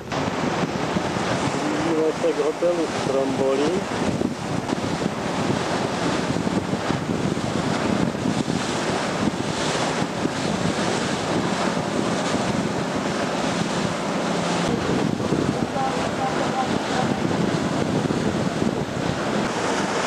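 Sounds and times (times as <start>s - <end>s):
low engine hum: 0.0s - 20.0s
sea water rushing: 0.0s - 20.0s
wind buffeting microphone: 0.0s - 20.0s.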